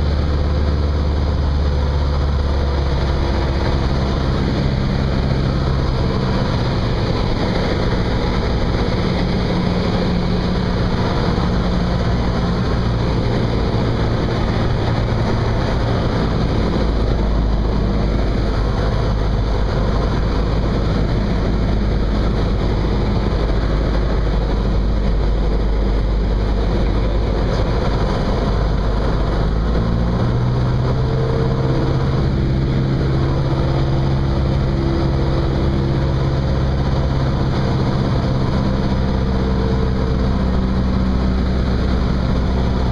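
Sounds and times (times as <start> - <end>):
propeller plane engine drone: 0.0 - 42.9.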